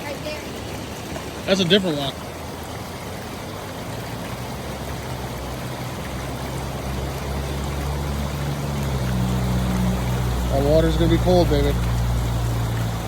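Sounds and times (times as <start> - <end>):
creek water trickling: 0.0 - 13.0.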